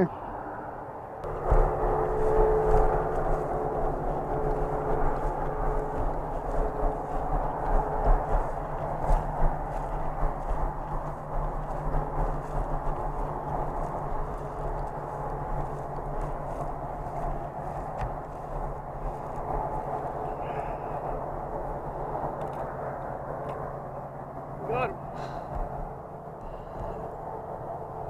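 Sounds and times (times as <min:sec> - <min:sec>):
steady low rumble: 0:00.0 - 0:28.0
footsteps in dry grass: 0:01.2 - 0:24.2, 0:25.0 - 0:27.9.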